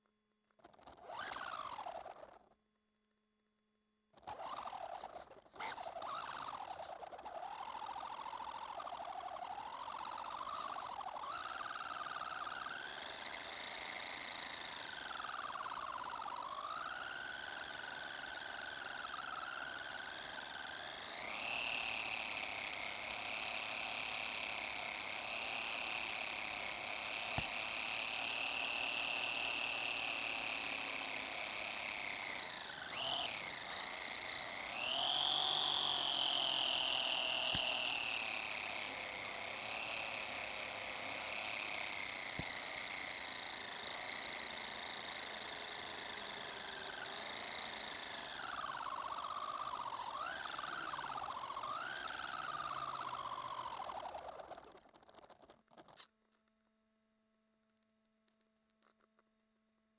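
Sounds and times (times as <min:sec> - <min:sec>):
toy car motor whining: 0:00.6 - 0:02.6, 0:04.1 - 0:56.1.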